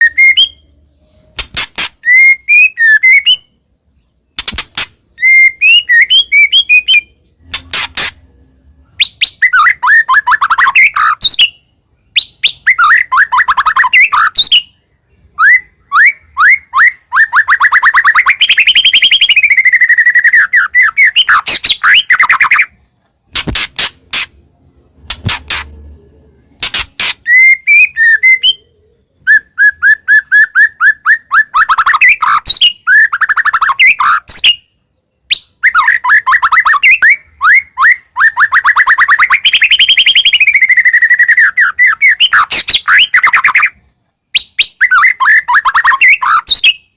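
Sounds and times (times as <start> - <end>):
songbird singing whistled trills: 0.0 - 46.9.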